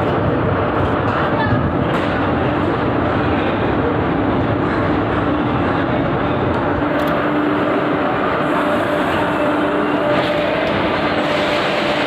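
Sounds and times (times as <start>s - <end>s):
passenger train rolling: 0.0s - 12.0s.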